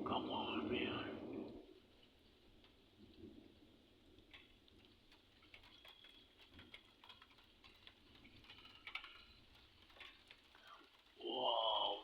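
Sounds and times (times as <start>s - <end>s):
light raindrops ticking: 0.0s - 12.0s.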